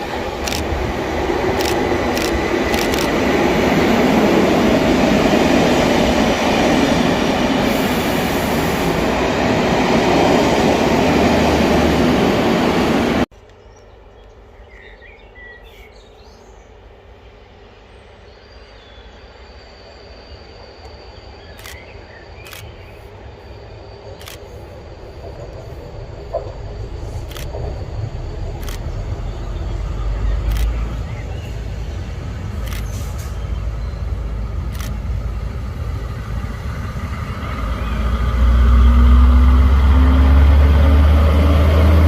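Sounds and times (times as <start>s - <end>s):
approaching train rumble: 0.0s - 13.3s, 16.9s - 42.0s
train passing close by: 0.0s - 13.3s, 16.7s - 42.0s.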